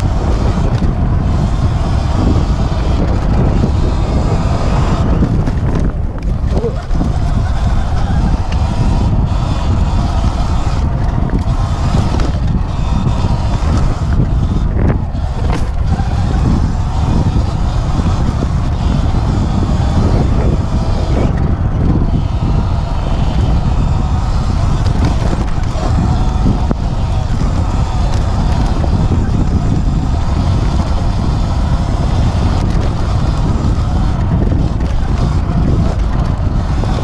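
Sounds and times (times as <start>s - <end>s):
electric motor and tyre noise: 0.0s - 37.0s
wind buffeting microphone: 0.0s - 37.0s.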